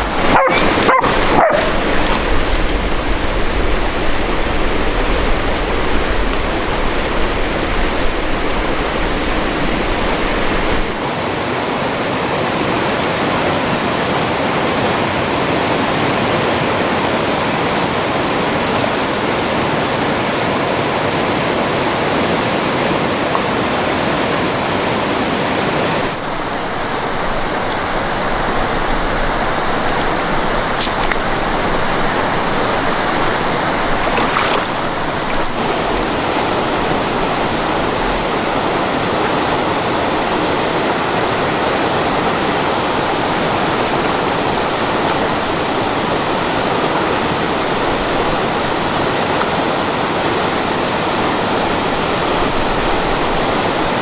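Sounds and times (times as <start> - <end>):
mountain stream water rushing: 0.0 - 54.0.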